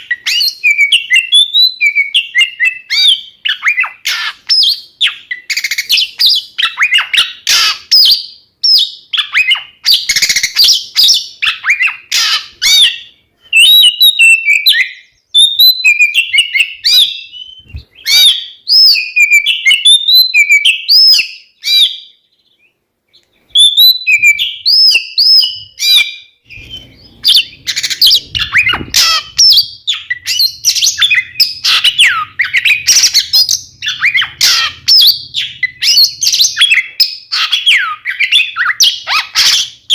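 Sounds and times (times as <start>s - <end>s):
songbirds whistling and trilling: 0.0s - 39.9s.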